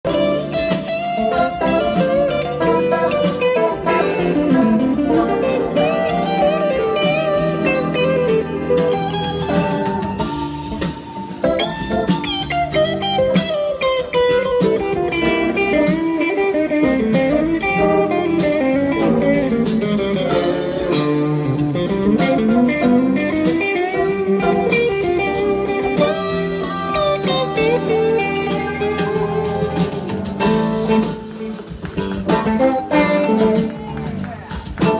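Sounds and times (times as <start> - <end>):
blues guitar music: 0.0 - 34.9.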